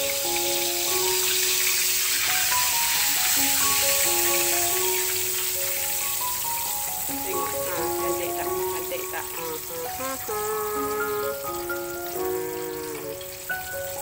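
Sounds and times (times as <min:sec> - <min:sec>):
meat sizzling in hot oil: 0:00.0 - 0:14.0
simple background melody: 0:00.0 - 0:14.0.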